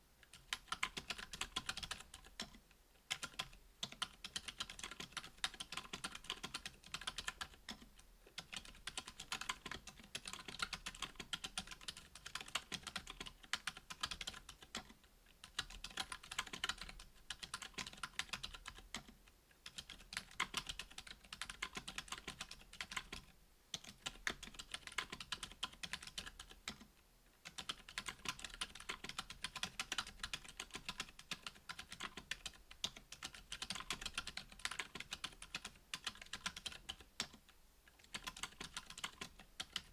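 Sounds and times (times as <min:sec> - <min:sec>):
mechanical keyboard typing: 0:00.3 - 0:39.9.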